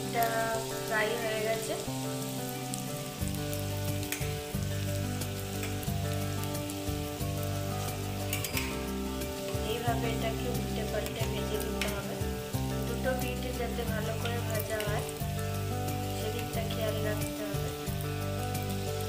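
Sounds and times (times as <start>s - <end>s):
background music: 0.0s - 19.0s
food sizzling in hot oil: 0.0s - 19.0s.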